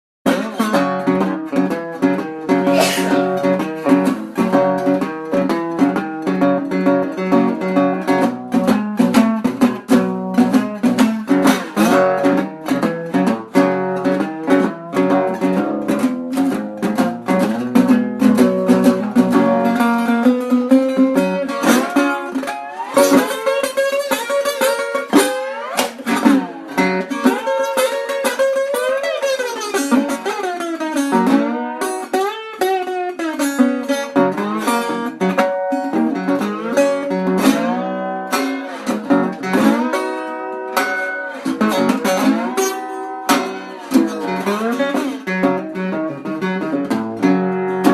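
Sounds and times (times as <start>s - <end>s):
blues guitar playing: 0.3s - 47.9s.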